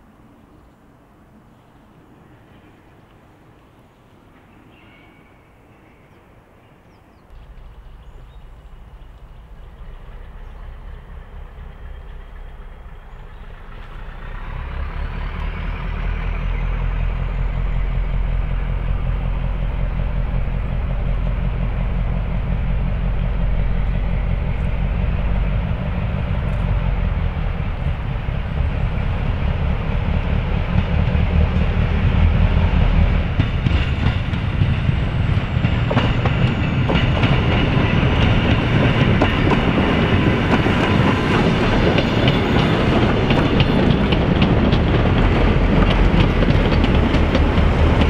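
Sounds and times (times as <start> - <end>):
diesel locomotive engine: 0.0 - 48.0.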